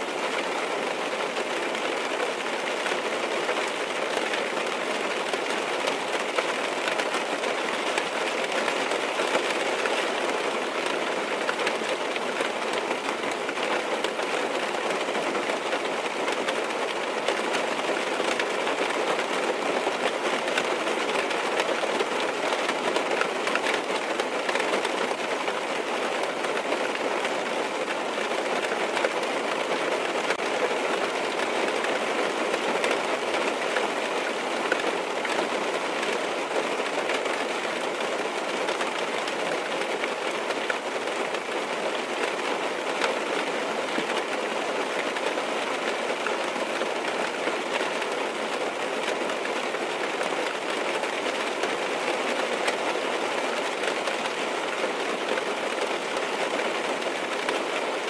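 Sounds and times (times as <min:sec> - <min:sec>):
rain on a car roof: 0:00.0 - 0:58.0.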